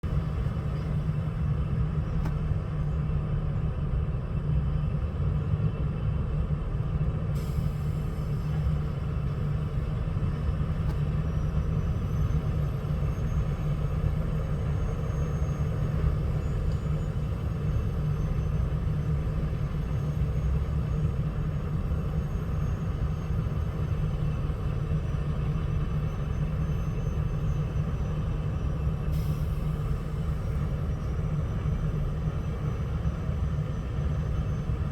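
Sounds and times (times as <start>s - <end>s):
diesel machinery engine rumble: 0.0s - 34.9s.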